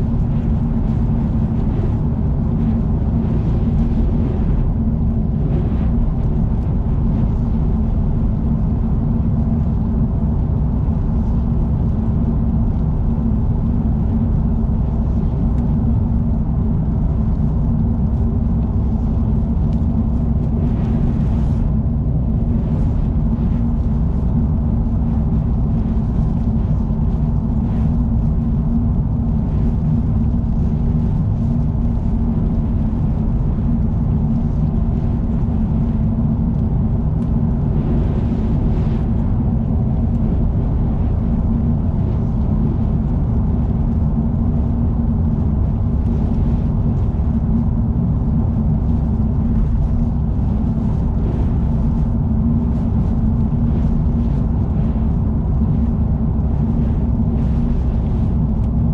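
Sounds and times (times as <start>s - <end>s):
car road and engine drone: 0.0s - 58.9s.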